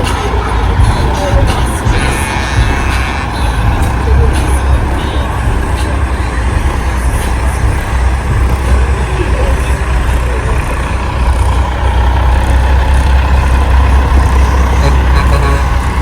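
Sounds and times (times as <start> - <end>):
diesel truck engines rumbling: 0.0 - 16.0
road noise: 0.0 - 16.0.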